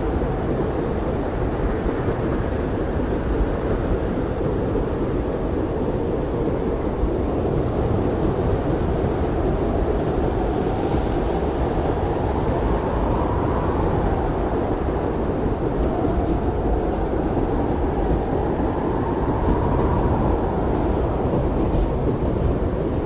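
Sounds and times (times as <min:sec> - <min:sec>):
howling blizzard wind: 0:00.0 - 0:23.0.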